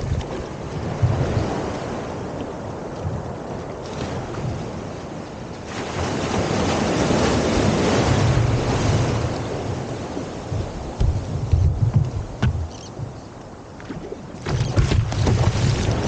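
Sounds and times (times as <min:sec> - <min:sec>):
waves and rushing water: 0:00.0 - 0:16.0
wind buffeting microphone: 0:00.0 - 0:16.0.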